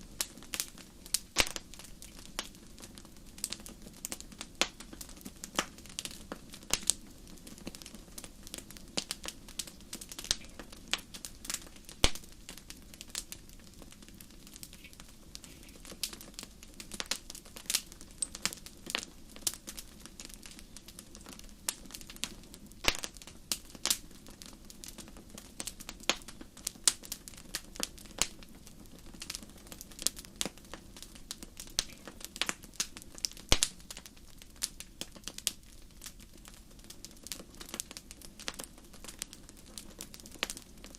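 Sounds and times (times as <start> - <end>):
fire crackling and popping: 0.0 - 40.9
low rush of flames: 0.0 - 40.9.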